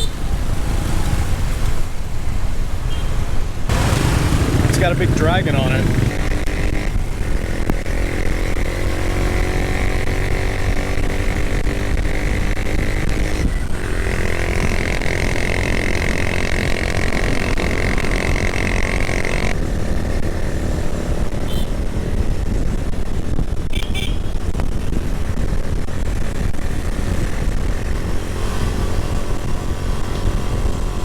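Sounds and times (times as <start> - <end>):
wind and road noise: 0.0 - 31.0
motorcycle engine running: 3.7 - 31.0.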